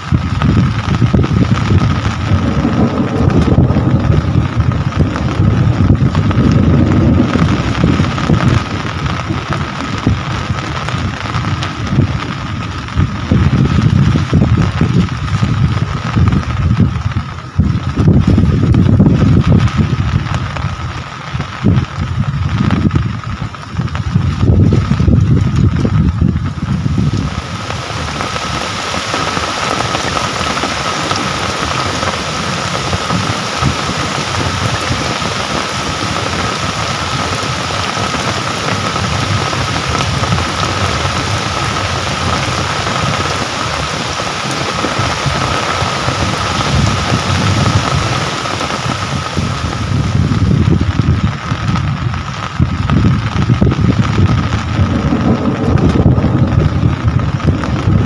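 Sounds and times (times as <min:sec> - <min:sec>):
low rumble: 0:00.0 - 0:58.0
rain falling: 0:00.0 - 0:58.0.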